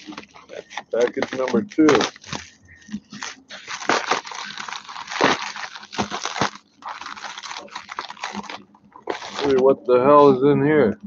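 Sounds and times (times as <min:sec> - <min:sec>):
knife cutting plastic: 0:00.0 - 0:09.7
plastic mailer crinkling: 0:00.0 - 0:09.7.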